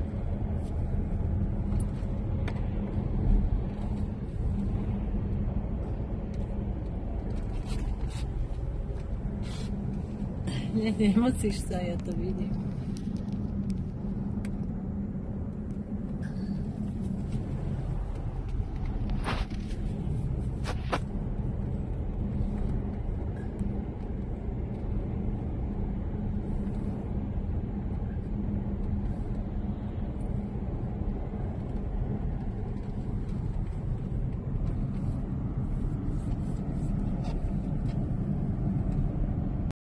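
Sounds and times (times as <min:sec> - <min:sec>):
car cabin road noise: 0:00.0 - 0:39.7.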